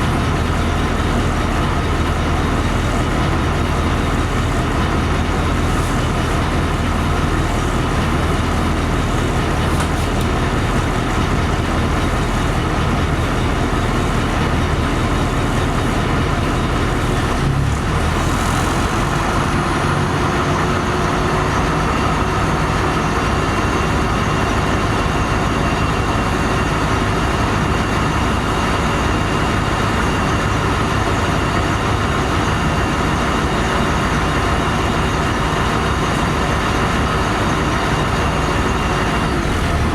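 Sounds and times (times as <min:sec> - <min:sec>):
bus engine hum: 0:00.0 - 0:39.9
bus running noise: 0:00.0 - 0:39.9.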